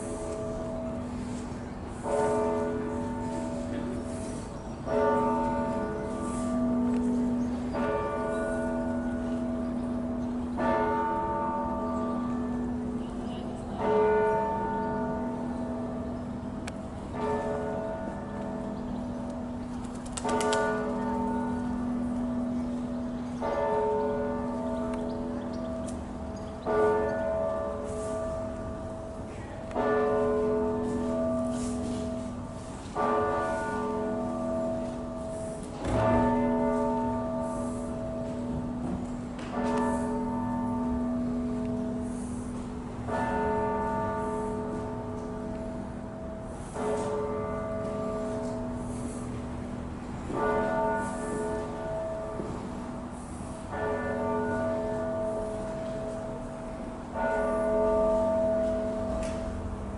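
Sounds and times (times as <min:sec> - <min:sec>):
church bell strikes ringing: 0:00.0 - 0:59.9.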